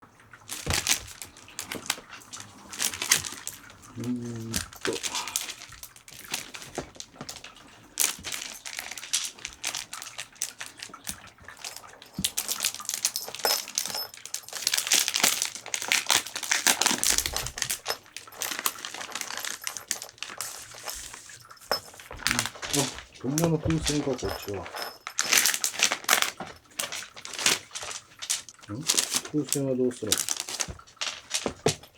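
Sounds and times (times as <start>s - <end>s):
plastic packaging crinkling: 0.4s - 31.9s.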